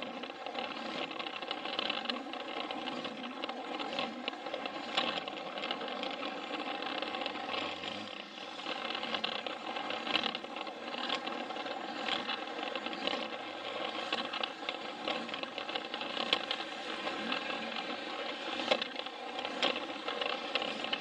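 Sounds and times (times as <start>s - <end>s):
clicks and rattles on plastic track: 0.0s - 21.0s
toy train motor whining: 0.0s - 21.0s.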